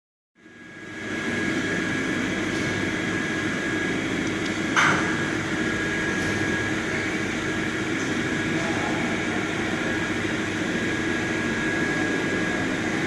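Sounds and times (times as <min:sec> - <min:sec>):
dense machine noise: 0:00.4 - 0:13.0.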